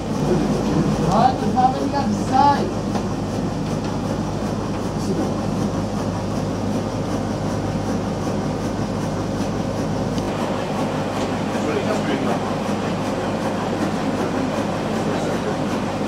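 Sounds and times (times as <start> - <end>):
steam machinery droning: 0.0 - 16.0.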